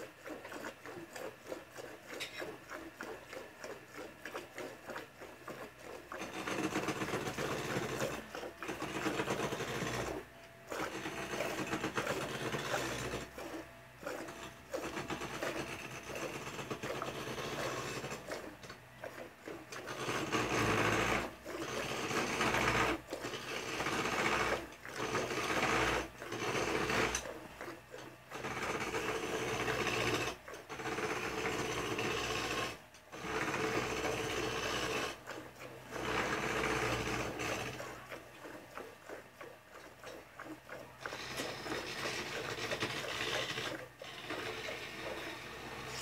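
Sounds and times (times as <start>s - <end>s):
milk squirting into metal pail: 0.0s - 46.0s.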